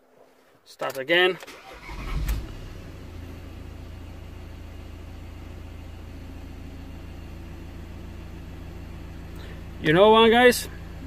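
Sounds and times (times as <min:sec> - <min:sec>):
diesel engine idling: 0:01.7 - 0:11.0.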